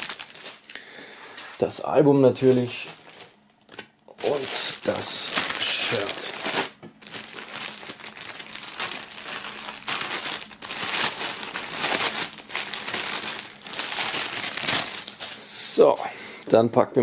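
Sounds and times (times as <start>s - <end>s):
plastic bag crinkling: 0.0s - 1.5s, 2.4s - 15.8s.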